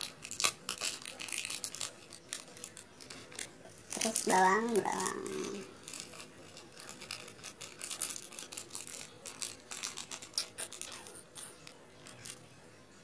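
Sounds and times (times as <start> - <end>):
plastic sachet crinkling: 0.0 - 12.5.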